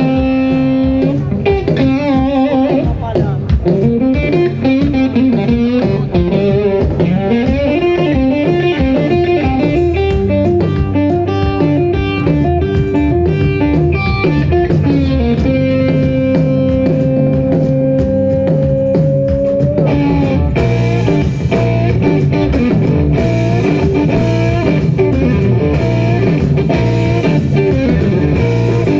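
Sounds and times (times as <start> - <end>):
bass: 0.0 - 28.9
drums: 0.0 - 28.9
electric guitar lead bending notes: 0.0 - 28.9.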